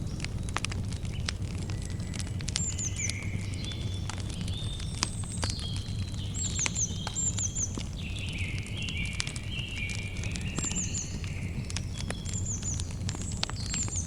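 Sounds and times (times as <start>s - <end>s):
campfire crackling: 0.0s - 14.0s
birds calling: 1.0s - 14.0s.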